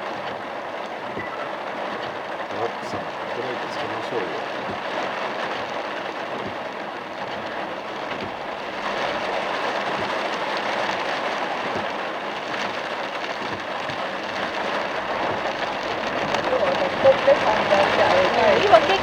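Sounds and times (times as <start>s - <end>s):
heavy rain on a car: 0.0s - 19.0s.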